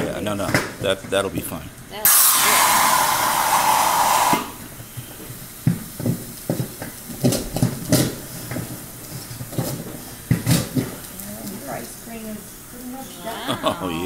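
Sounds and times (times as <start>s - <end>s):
liquid nitrogen hissing: 0.0s - 14.0s.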